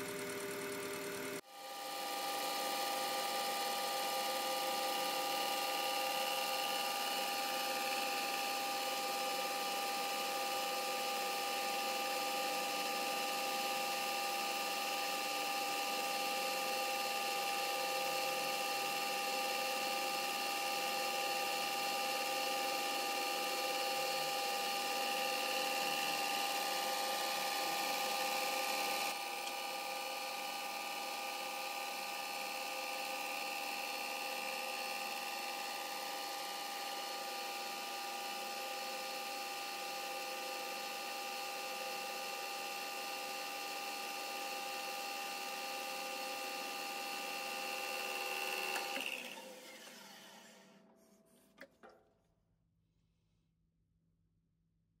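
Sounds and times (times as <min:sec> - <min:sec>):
metal lathe whining: 0:00.0 - 0:50.9.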